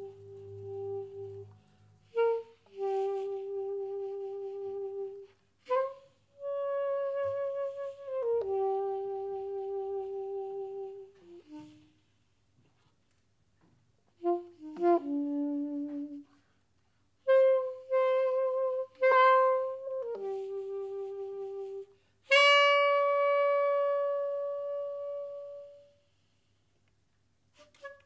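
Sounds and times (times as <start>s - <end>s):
saxophone playing notes: 0.0s - 12.1s, 14.2s - 16.4s, 17.2s - 26.0s, 27.6s - 28.0s.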